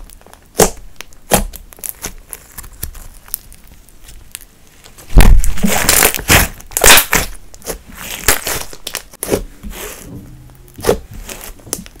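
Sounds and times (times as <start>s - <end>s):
slime crackling and squishing: 0.0s - 12.0s.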